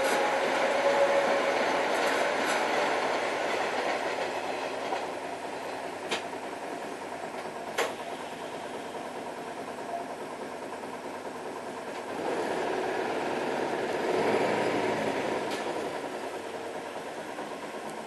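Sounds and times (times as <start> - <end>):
train rumbling over crossing: 0.0 - 18.0.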